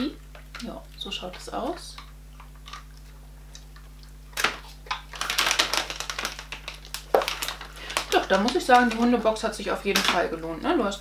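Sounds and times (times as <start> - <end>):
plastic bag crinkling: 0.3 - 10.5.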